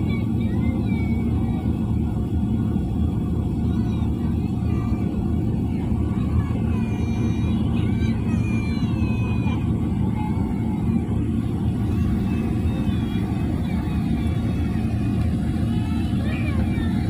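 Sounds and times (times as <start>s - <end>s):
jet engine rumble in cabin: 0.0s - 17.0s.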